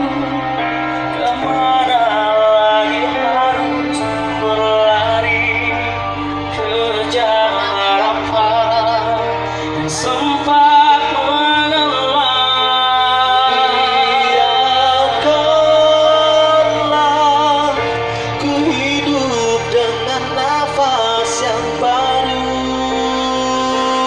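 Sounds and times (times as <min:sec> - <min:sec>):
male vocal group singing in harmony: 0:00.0 - 0:24.0.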